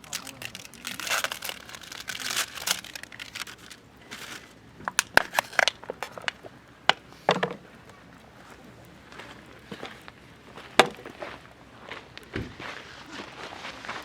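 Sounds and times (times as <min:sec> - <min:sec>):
wood fire crackling: 0:00.0 - 0:12.4.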